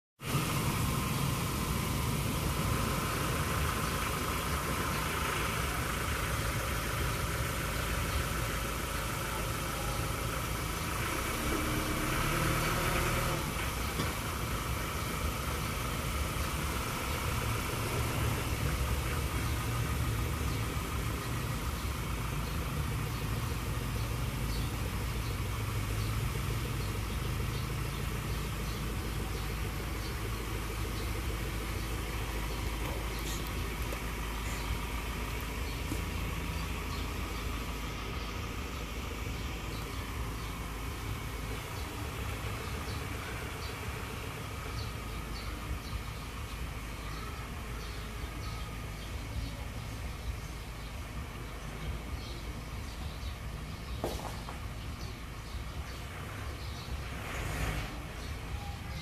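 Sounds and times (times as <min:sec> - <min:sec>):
diesel engine idling: 0:00.2 - 0:59.0.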